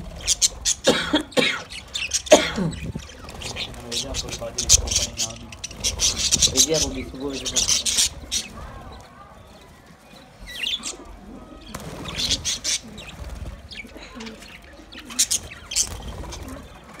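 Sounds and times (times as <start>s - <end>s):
budgerigars chirping: 0.0s - 9.7s, 10.3s - 17.0s.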